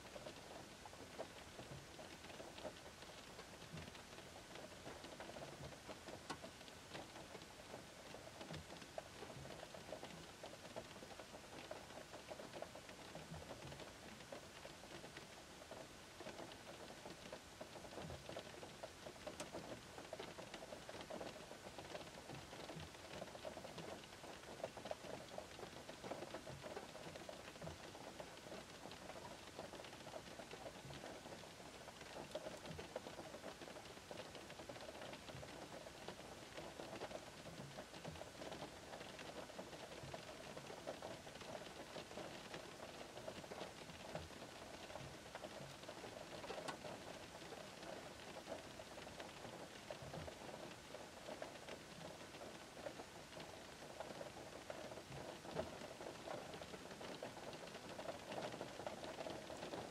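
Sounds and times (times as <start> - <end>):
rain pattering on car roof: 0.0 - 59.9.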